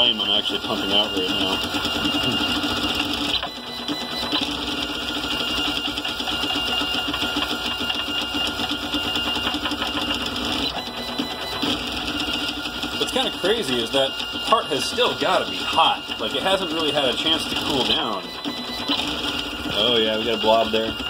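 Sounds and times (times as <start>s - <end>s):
printer motors fast rattling buzz: 0.0s - 21.0s.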